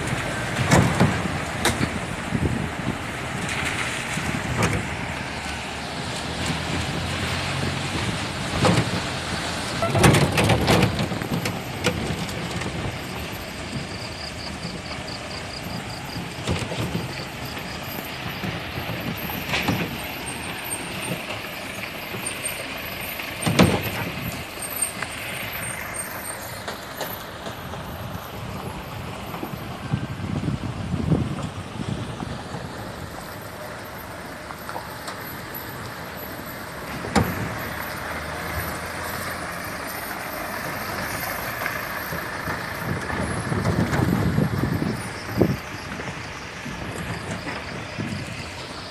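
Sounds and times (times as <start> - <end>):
car thumping over bumps: 0.0 - 5.5, 6.1 - 22.3, 25.6 - 48.6
car road and engine noise: 0.0 - 48.9.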